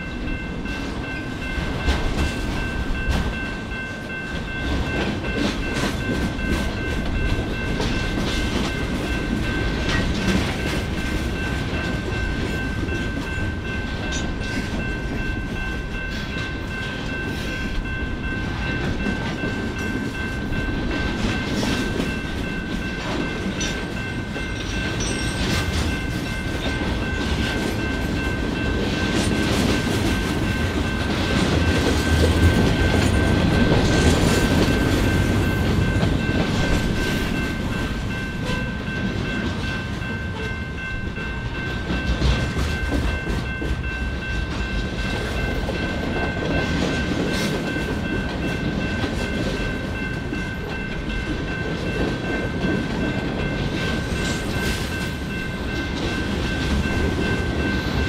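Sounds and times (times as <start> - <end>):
train cars rolling on rails: 0.0 - 58.0
wheels clicking over rail joints: 1.0 - 58.0.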